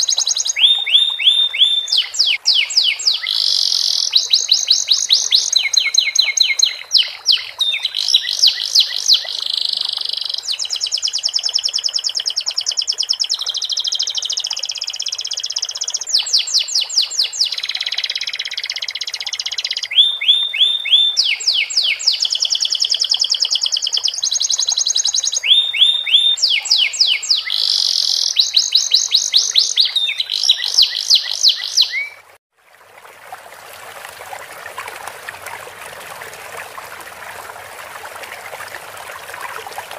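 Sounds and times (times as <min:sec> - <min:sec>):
canary singing trills: 0:00.0 - 0:32.2
running water trickling: 0:00.0 - 0:39.9.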